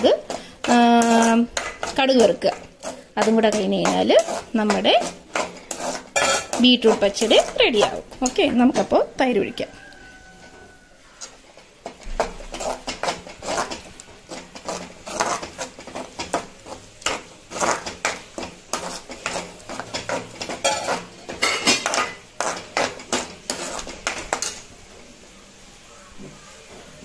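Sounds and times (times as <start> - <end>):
spoon scraping metal pan: 0.0 - 24.7.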